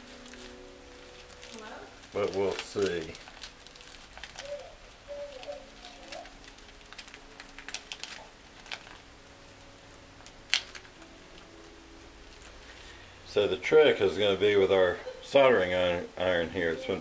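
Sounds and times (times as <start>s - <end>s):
plastic film crinkling: 0.0s - 15.8s.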